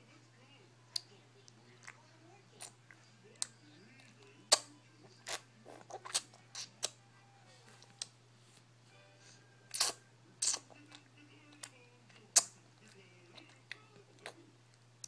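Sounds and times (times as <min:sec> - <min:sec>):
baby sucking fingers: 0:00.9 - 0:08.7, 0:09.6 - 0:14.8.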